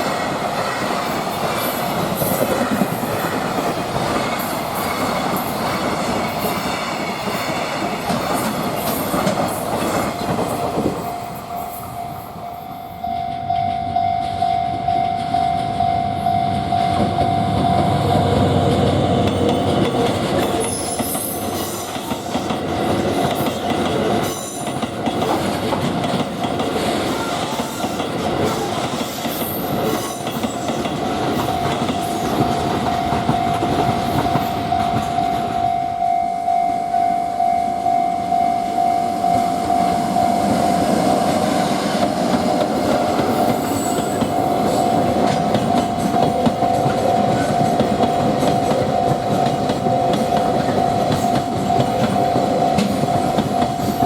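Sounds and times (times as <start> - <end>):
train wagons clacking over rails: 0.0 - 12.4, 13.0 - 35.9, 39.2 - 54.0
crossing warning bell ringing: 0.0 - 54.0.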